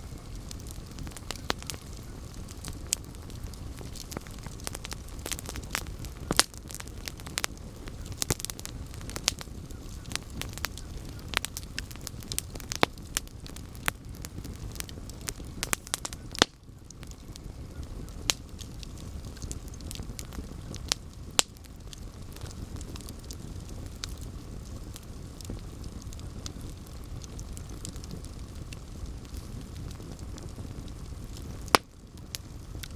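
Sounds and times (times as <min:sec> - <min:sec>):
campfire crackling and popping: 0:00.0 - 0:32.9
low rumble of flame: 0:00.0 - 0:32.9.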